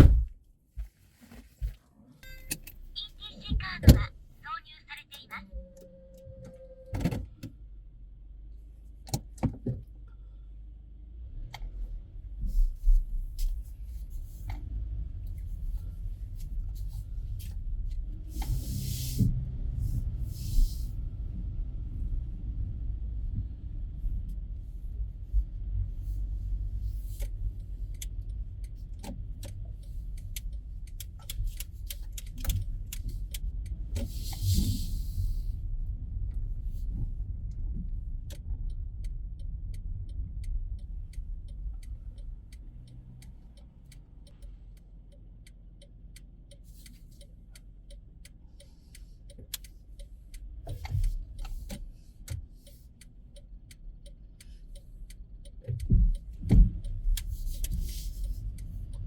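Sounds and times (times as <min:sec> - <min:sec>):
engine and road rumble: 0:00.0 - 0:59.0
turn signal clicking: 0:11.2 - 0:59.0.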